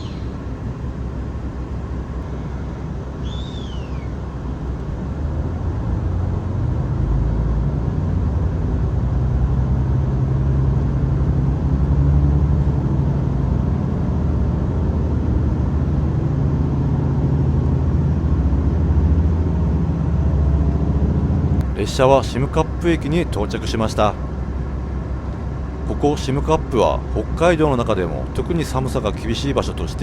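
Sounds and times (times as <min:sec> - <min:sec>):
train engine hum: 0:00.0 - 0:30.0
train wheels rumbling: 0:00.0 - 0:30.0.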